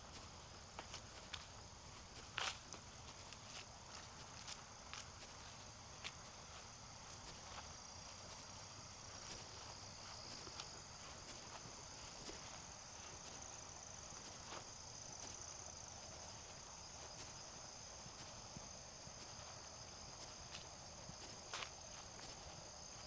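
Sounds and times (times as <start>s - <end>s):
footsteps on a trail: 0.0s - 23.0s
insects chorus: 0.0s - 23.0s.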